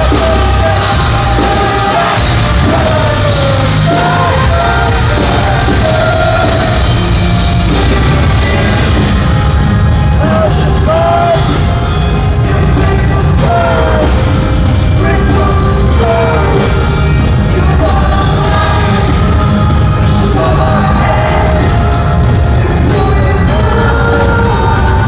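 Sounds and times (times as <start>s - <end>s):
drums: 0.0s - 25.0s
man singing: 0.0s - 25.0s
rock band playing live: 0.0s - 25.0s.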